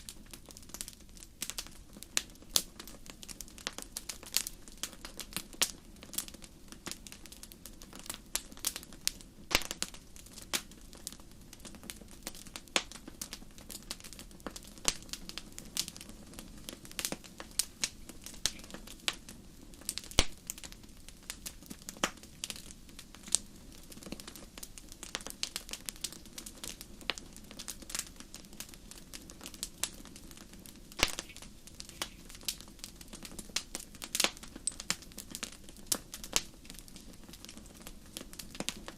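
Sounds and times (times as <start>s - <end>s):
low hiss of flame: 0.0s - 38.9s
wood fire crackling: 0.0s - 38.9s.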